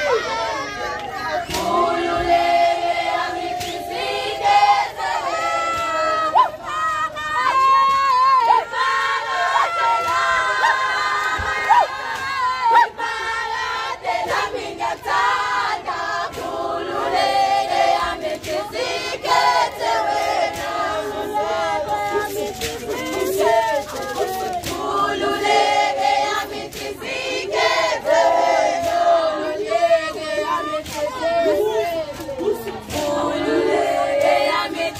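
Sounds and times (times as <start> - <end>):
group of girls singing: 0.0 - 34.9.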